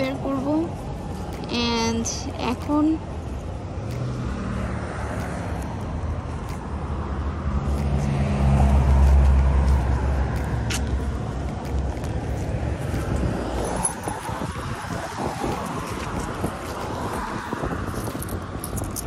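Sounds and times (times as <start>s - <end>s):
steady traffic rumble: 0.0s - 19.0s
vehicle passing close: 2.9s - 19.0s.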